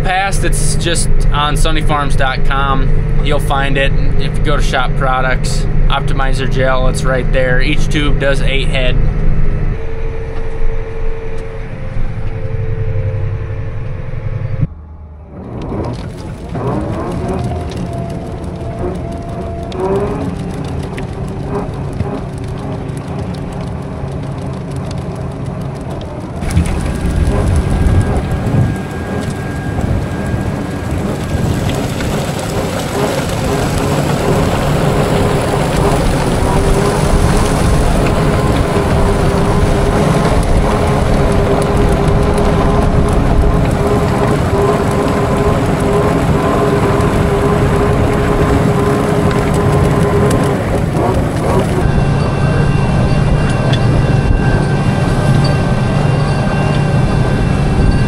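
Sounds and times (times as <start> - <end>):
farm machinery engine drone: 0.0 - 58.0.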